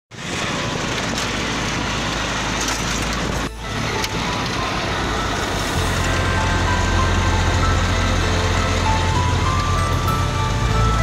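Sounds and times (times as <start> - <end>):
low engine hum: 0.1 - 11.0
wind and road noise: 0.1 - 11.0.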